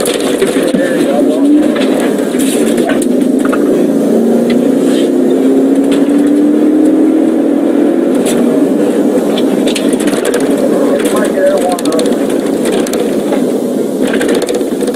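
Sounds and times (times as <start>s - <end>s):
car engine accelerating: 0.0s - 14.9s
road rumble: 0.0s - 14.9s.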